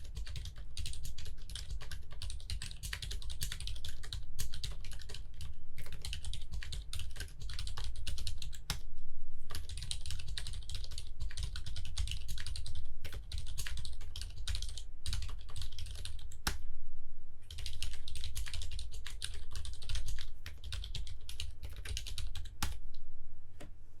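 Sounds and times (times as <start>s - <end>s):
mechanical keyboard typing: 0.0s - 8.8s, 9.5s - 16.6s, 17.5s - 22.8s.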